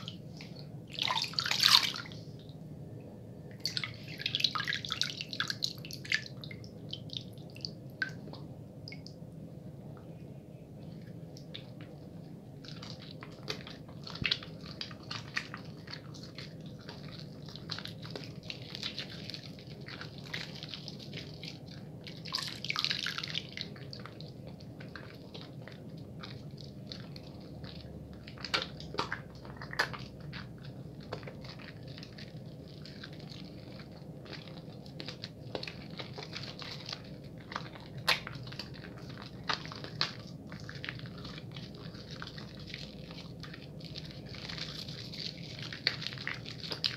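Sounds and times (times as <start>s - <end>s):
soap lathering between wet hands: 0.0s - 2.6s, 3.5s - 9.2s, 10.8s - 46.9s.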